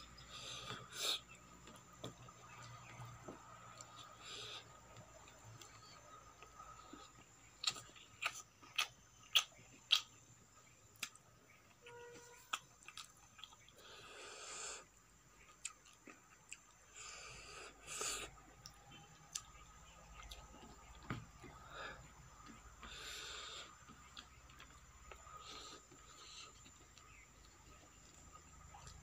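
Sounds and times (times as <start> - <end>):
person chewing food: 0.1 - 29.0.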